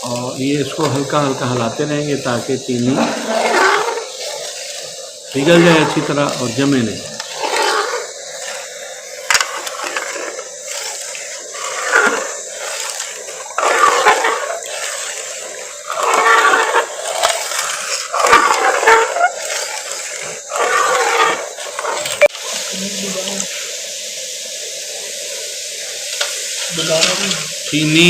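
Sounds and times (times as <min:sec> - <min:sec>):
syrup sizzling: 0:00.0 - 0:28.0.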